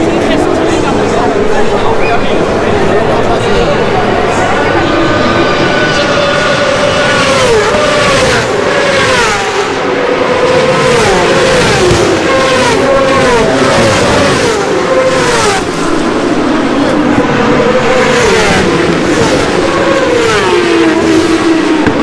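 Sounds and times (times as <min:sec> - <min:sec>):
racing motorcycles passing by: 0:00.0 - 0:22.0.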